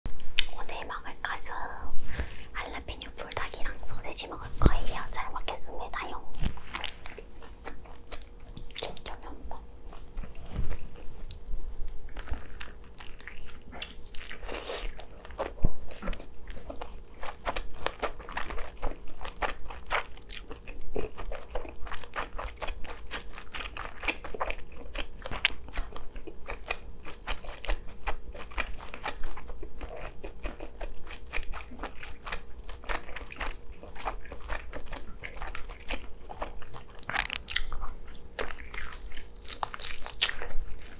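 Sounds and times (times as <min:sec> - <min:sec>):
biting and chewing sausage: 0:06.4 - 0:40.9.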